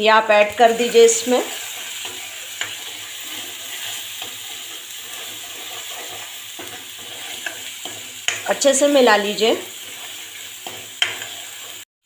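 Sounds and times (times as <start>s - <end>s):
sauce sizzling in hot oil: 0.0s - 11.9s.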